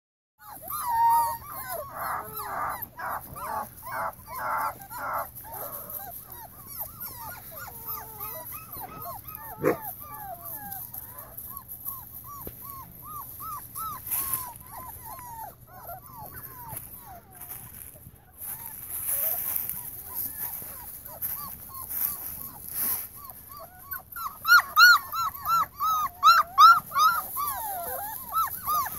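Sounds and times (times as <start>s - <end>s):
puppies whimpering: 0.4s - 28.9s
puppies yelping: 0.4s - 28.9s.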